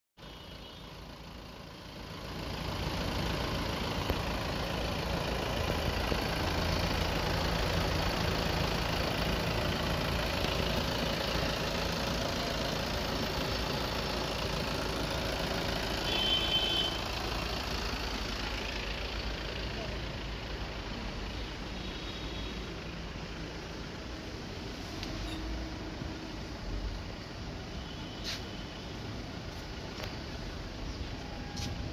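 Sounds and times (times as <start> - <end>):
car engine idling: 0.2 - 31.9.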